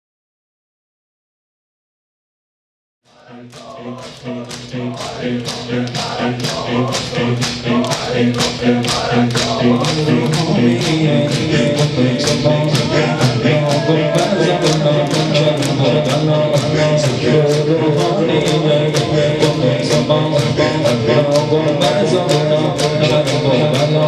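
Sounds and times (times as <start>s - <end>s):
crowd singing along: 3.1s - 24.0s
man chanting into a microphone: 3.1s - 24.0s
rhythmic chest-beating slaps: 3.2s - 24.0s.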